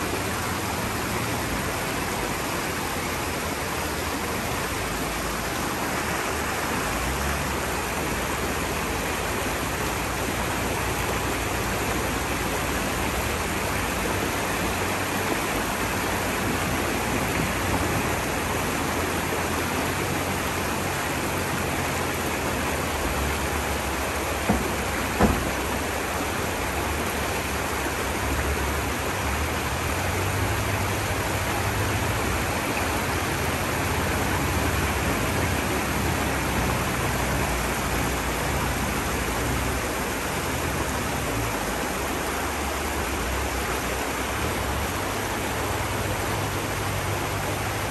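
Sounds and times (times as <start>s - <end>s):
stream rushing over stones: 0.0s - 47.9s.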